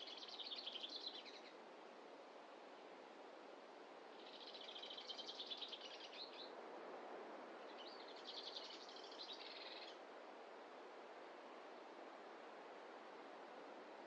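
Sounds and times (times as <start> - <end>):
faint steady background rush: 0.0 - 14.0.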